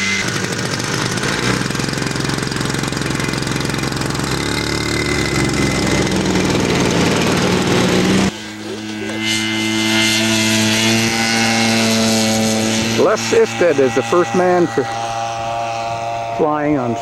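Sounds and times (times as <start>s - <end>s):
model aircraft engine running: 0.0s - 17.0s
steady engine drone: 0.0s - 17.0s.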